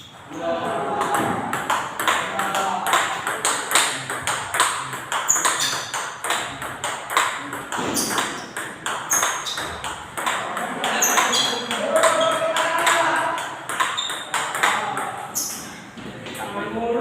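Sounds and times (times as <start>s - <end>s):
ping pong ball bouncing on table: 0.6s - 15.8s
ping pong ball hitting bat: 0.6s - 15.8s.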